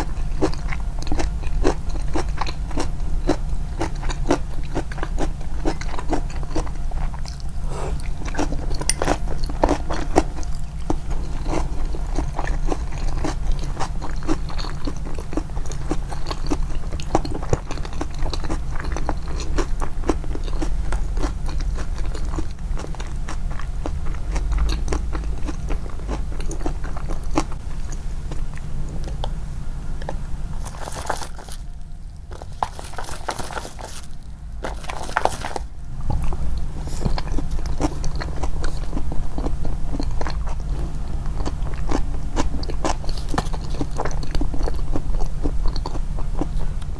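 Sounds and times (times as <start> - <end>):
chewing crunchy food: 0.0 - 46.9
steady low hum: 0.0 - 46.9.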